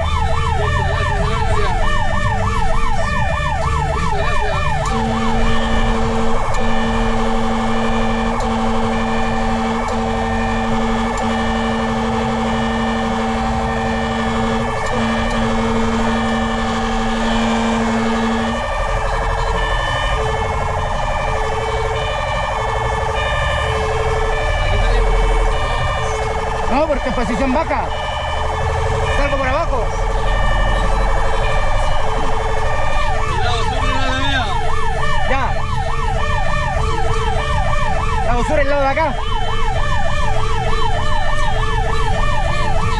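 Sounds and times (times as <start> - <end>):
fire truck horn: 0.0 - 42.9
fire truck siren: 0.0 - 42.9.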